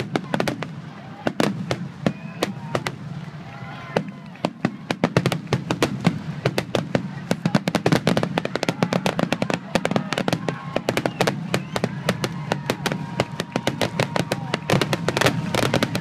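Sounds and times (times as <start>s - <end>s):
fireworks bursting: 0.0s - 16.0s
fireworks crackle: 0.0s - 16.0s.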